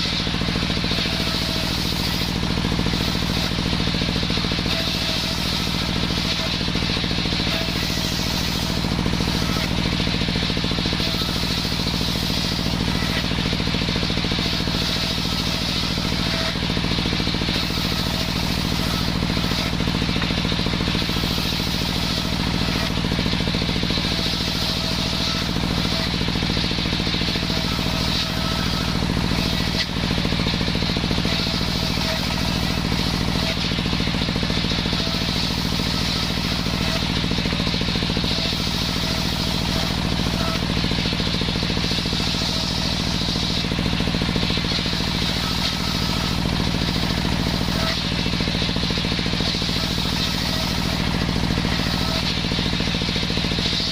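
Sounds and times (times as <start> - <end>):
circular saw engine running: 0.0 - 53.9.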